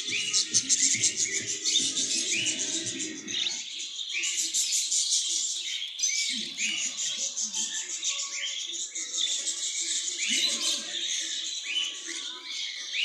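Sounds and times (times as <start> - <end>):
small birds chirping and chattering: 0.0 - 13.0.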